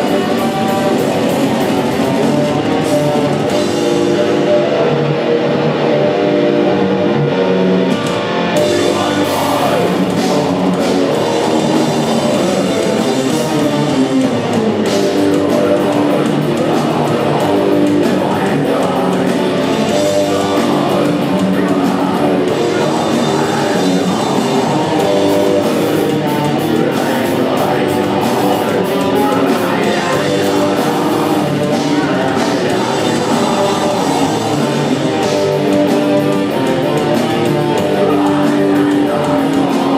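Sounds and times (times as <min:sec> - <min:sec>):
person singing: 0:00.0 - 0:07.2, 0:07.8 - 0:39.9
drums: 0:00.0 - 0:39.9
electric guitars: 0:00.0 - 0:39.9.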